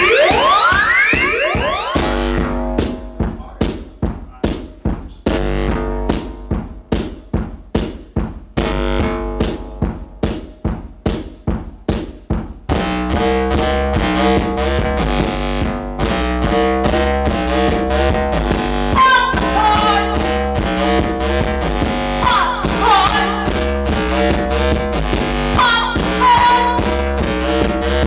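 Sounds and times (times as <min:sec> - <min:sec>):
electronic keyboard music: 0:00.0 - 0:03.6, 0:05.3 - 0:06.9, 0:08.6 - 0:10.7, 0:12.7 - 0:28.0
lead melody with sliding notes: 0:00.0 - 0:03.6, 0:05.3 - 0:06.9, 0:08.6 - 0:10.8, 0:12.7 - 0:28.0
percussive hits: 0:00.0 - 0:28.0.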